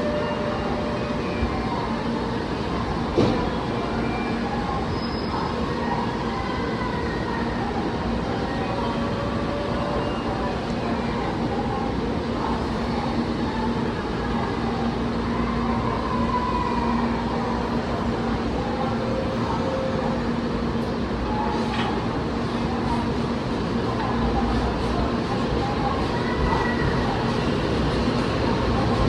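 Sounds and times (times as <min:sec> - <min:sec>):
faint voices: 0:00.0 - 0:29.0
train rumbling: 0:00.0 - 0:29.0.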